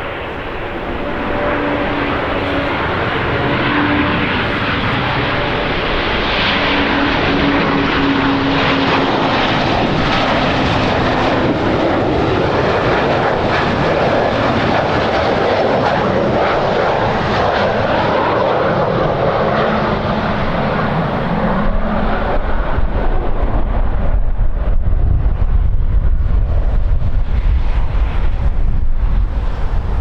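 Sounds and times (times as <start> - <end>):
aircraft engines roaring: 0.0 - 30.0.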